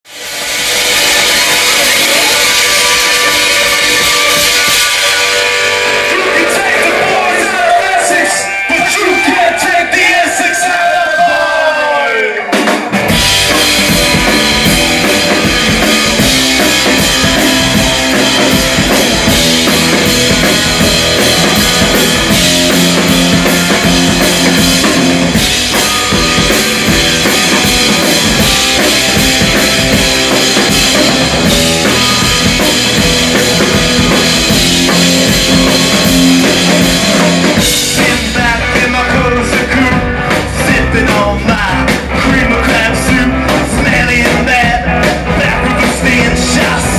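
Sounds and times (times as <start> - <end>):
electric bass: 0.1 - 9.2, 12.8 - 46.9
electric guitar: 0.1 - 9.6, 12.4 - 46.9
drum kit: 0.1 - 10.4, 12.4 - 46.9.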